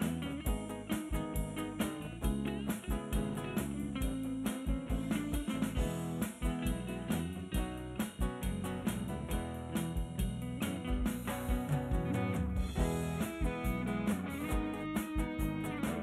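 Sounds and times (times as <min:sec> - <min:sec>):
drum kit steady beat: 0:00.0 - 0:16.0
electric bass: 0:00.0 - 0:16.0
electric guitars: 0:00.0 - 0:16.0.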